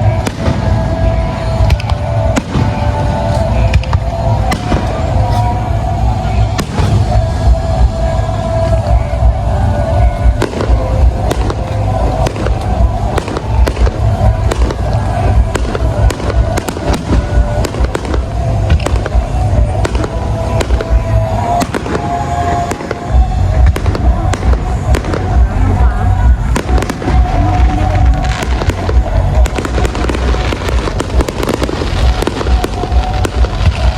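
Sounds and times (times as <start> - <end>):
fireworks bursting and crackling: 0.0 - 33.9
music with heavy low beat: 0.0 - 33.9.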